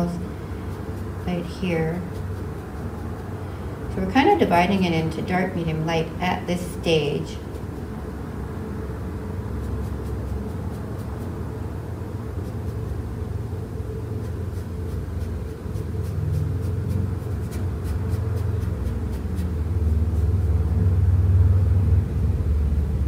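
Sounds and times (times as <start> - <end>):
paintbrush strokes on canvas: 0.0 - 21.2
low steady rumble: 0.0 - 23.0.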